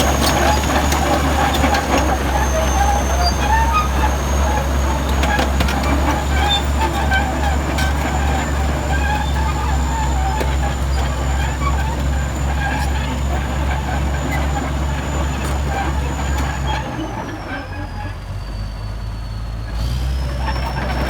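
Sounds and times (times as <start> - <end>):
bulldozer diesel engine running: 0.0 - 21.0
steel tracks squeaking and clanking: 0.0 - 21.0.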